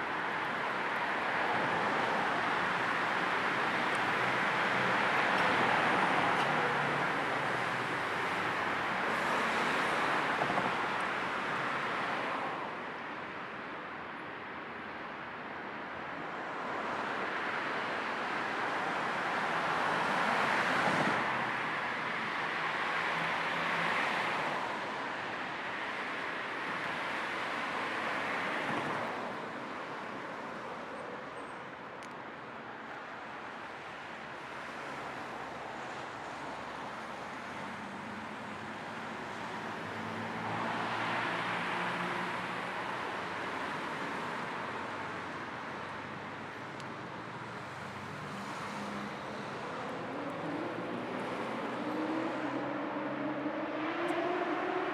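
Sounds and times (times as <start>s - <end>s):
car tyre and wind road noise: 0.0s - 54.9s.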